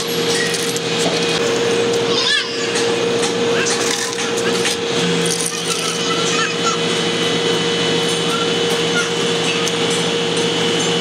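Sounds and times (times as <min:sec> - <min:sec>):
construction machinery droning: 0:00.0 - 0:11.0.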